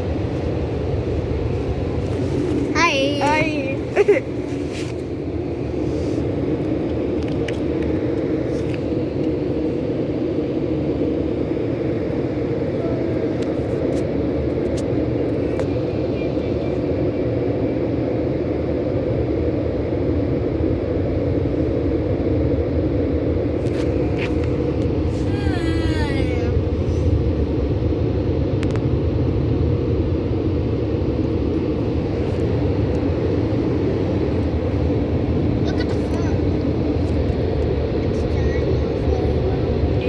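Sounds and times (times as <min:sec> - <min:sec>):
car wash machinery rumbling: 0:00.0 - 0:40.0.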